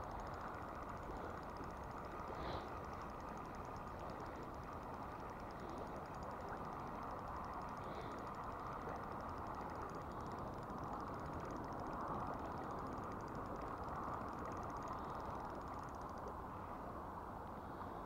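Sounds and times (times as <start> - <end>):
insects chirring: 0.0 - 16.8.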